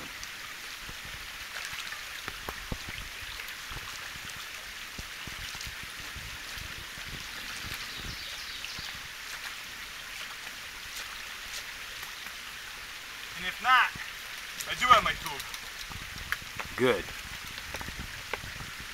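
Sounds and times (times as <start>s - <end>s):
stream running over rocks: 0.0s - 18.9s.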